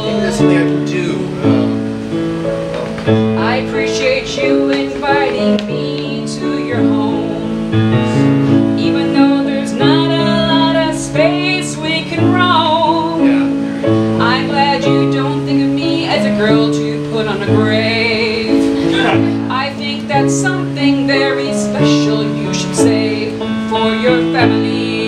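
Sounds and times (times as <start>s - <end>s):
woman singing: 0.0s - 0.5s, 3.3s - 25.0s
electric keyboard chords: 0.0s - 25.0s.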